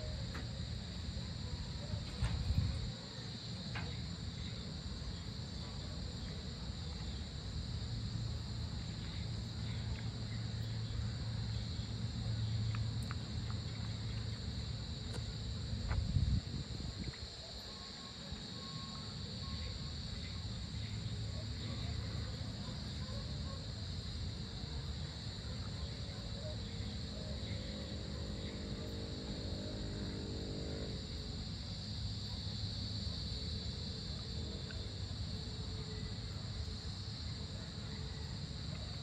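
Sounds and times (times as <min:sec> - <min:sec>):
crickets trilling: 0:00.0 - 0:39.0.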